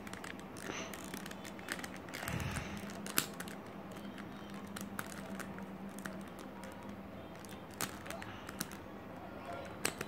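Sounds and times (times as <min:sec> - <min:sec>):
plastic cube pieces clicking: 0:00.0 - 0:08.8, 0:09.6 - 0:10.0.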